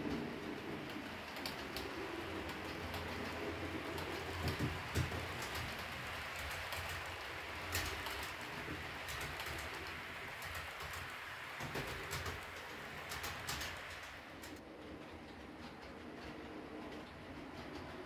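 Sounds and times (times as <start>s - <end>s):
model train rolling over track: 0.0s - 18.0s
wheels clicking over rail joints: 0.0s - 18.0s.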